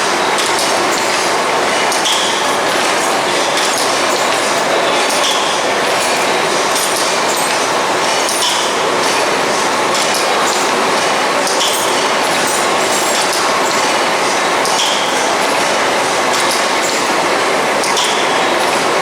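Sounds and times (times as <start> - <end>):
steam engine running with hiss: 0.0 - 19.0.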